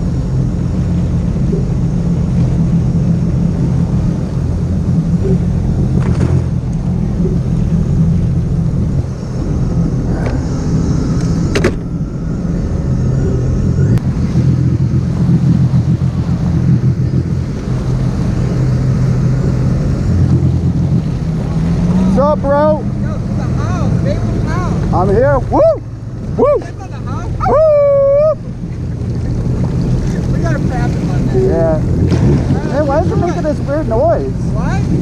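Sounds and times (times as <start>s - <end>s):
vehicle engine rumble: 0.0s - 35.0s.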